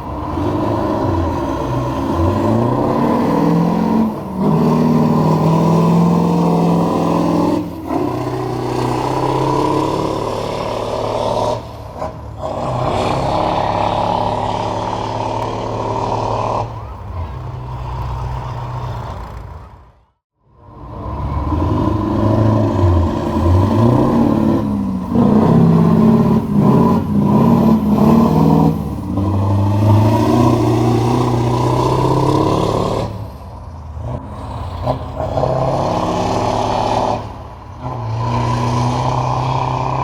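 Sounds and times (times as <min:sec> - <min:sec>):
diesel truck engine under load: 0:00.0 - 0:40.0.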